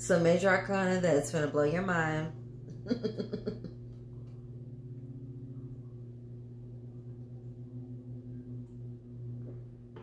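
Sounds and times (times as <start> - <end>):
low pulsing drone: 0.0 - 10.0.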